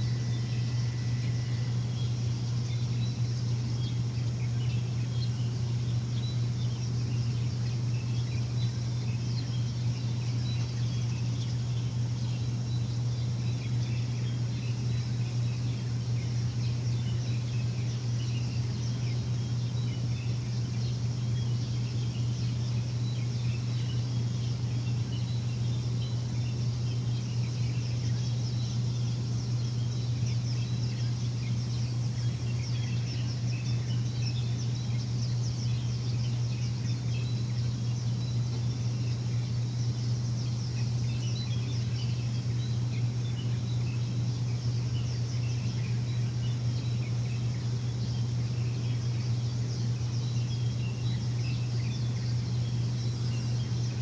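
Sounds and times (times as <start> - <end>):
bird chirps: 0.0 - 54.0
low machine hum: 0.0 - 54.0.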